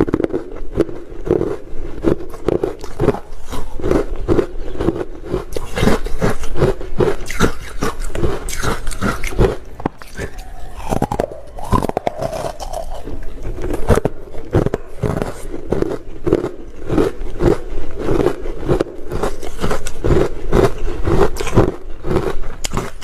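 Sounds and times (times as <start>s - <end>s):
crunching and chewing ice: 0.0s - 23.0s.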